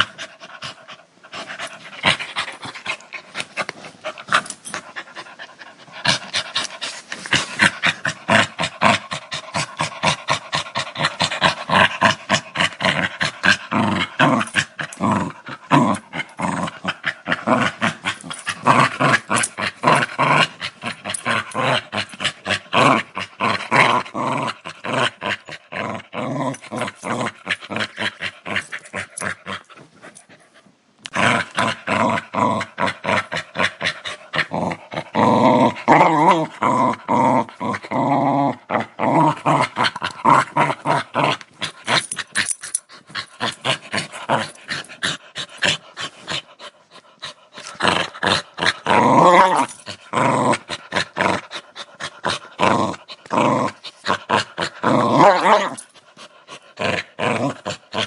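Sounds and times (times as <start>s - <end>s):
dog growling: 0.0s - 30.3s, 31.0s - 58.0s.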